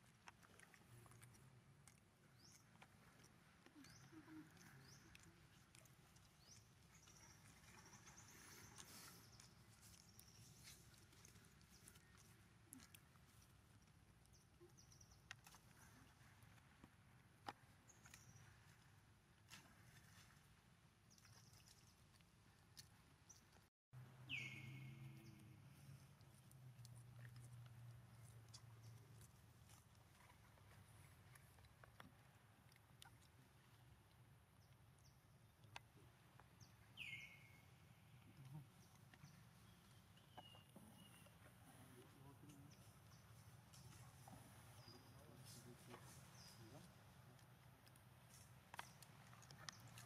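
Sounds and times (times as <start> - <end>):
faint outdoor ambience: 0.0 - 50.0.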